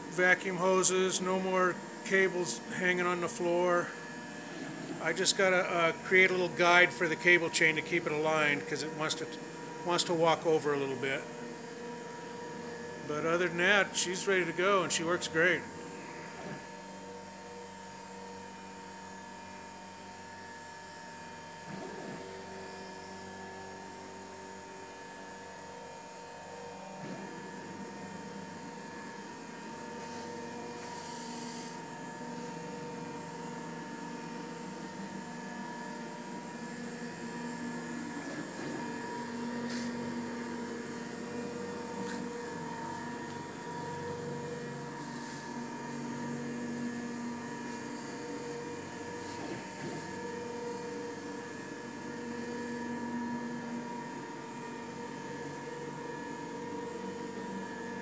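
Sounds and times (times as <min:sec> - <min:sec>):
cnc router machine hum: 0:00.0 - 0:58.0.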